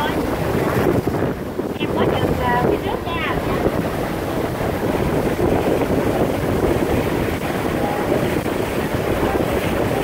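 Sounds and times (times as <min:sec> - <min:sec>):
choppy water washing: 0:00.0 - 0:10.0
low engine rumble: 0:00.0 - 0:10.0
wind noise on microphone: 0:00.0 - 0:10.0.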